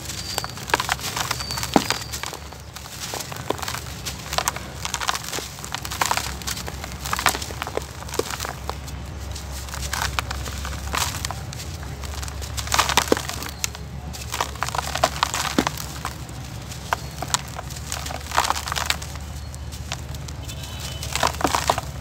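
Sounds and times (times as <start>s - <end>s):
dirt clumps crunching by hand: 0.0s - 22.0s
grains trickling into a tub: 0.0s - 22.0s.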